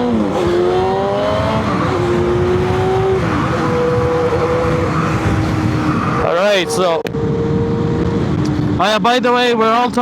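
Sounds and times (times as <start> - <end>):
motorcycle engine shifting gears: 0.0 - 8.8
wind rushing: 0.1 - 9.0.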